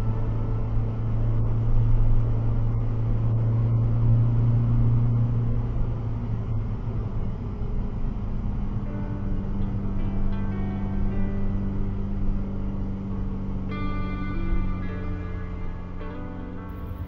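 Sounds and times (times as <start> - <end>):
car engine and tyre drone: 0.0 - 17.0.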